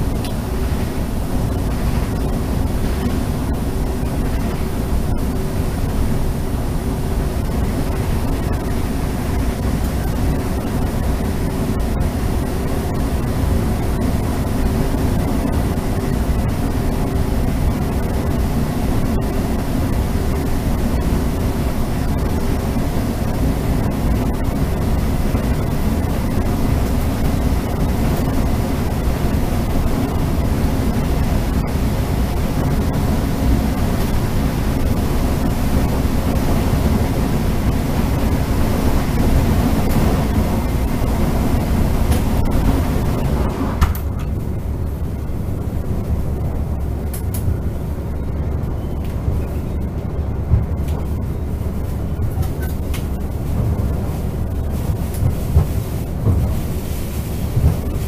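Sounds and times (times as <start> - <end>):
faint steady hum: 0.0 - 58.0
train wheels rolling on rails: 0.0 - 58.0.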